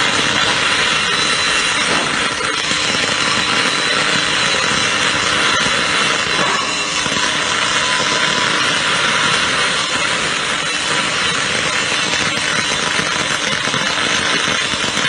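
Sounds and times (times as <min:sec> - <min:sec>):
welding arc crackling hiss: 0:00.0 - 0:15.0.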